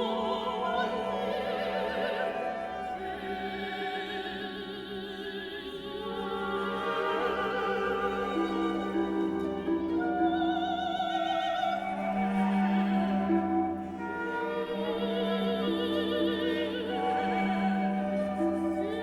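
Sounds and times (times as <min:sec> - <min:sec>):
orchestra and strings: 0:00.0 - 0:19.0.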